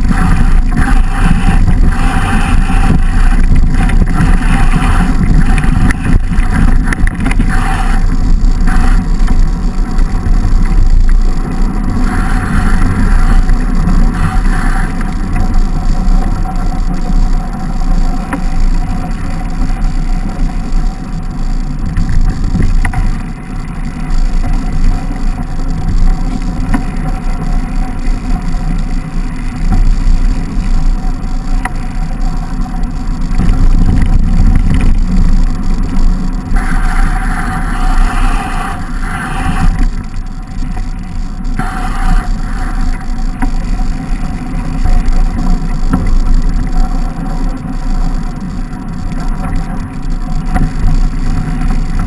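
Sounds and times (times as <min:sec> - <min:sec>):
bike clicks and rattles: 0:00.0 - 0:52.0
wind and tyre rumble: 0:00.0 - 0:52.0.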